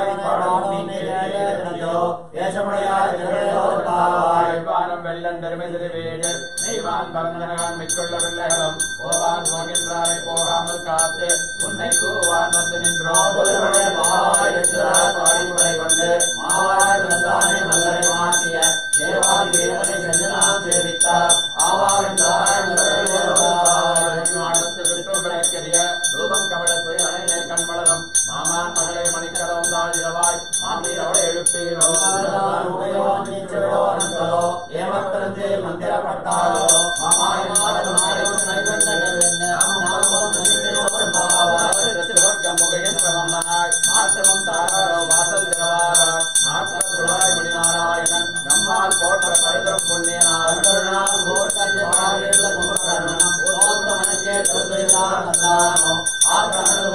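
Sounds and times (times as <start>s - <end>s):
person chanting: 0.0s - 56.9s
hand bell rung rapidly: 6.2s - 7.0s, 7.6s - 32.4s, 34.0s - 34.7s, 36.3s - 56.9s.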